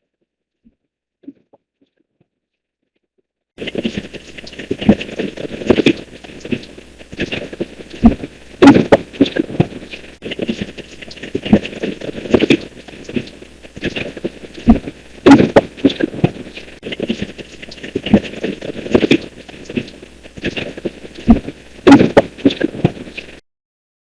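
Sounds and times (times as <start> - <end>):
crackling white-noise static: 3.6 - 23.4
irregular clicks and pulses: 3.6 - 23.4.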